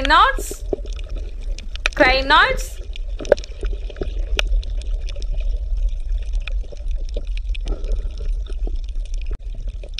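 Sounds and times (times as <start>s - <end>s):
small underwater clicks and pops: 0.0s - 2.1s, 2.8s - 9.9s
underwater low rumble: 0.0s - 9.9s.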